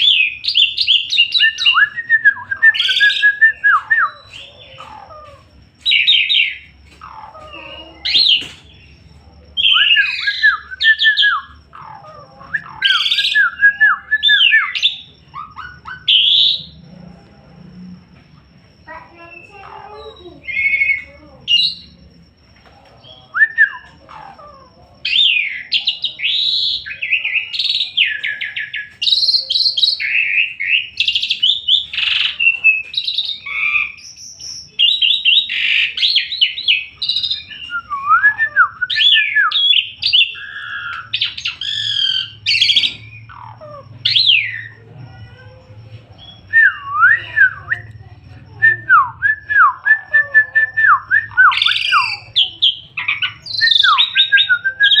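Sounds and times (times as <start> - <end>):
starling singing: 0.0 - 17.8, 18.6 - 55.0.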